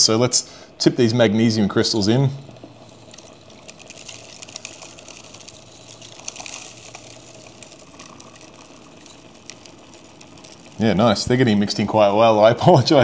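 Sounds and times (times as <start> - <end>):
stirrer motors humming: 0.7 - 12.7
crystals poured into water ticking: 1.9 - 12.4.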